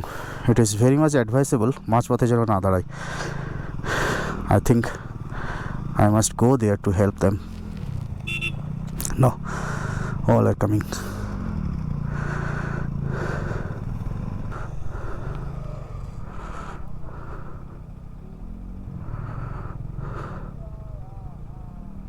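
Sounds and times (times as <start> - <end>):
motorcycle engine climbing: 0.0 - 22.0.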